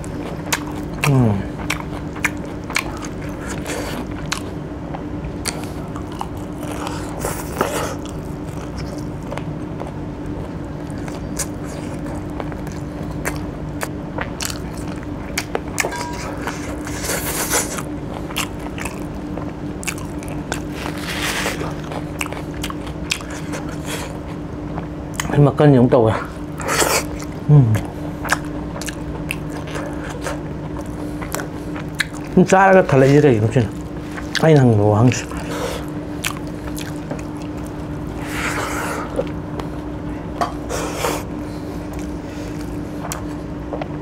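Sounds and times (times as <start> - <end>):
person chewing and crunching: 0.0 - 25.4, 26.2 - 43.5.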